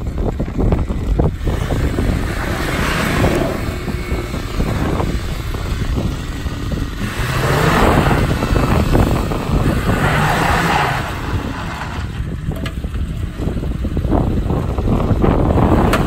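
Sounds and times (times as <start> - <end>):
engine working under load: 0.0 - 16.0.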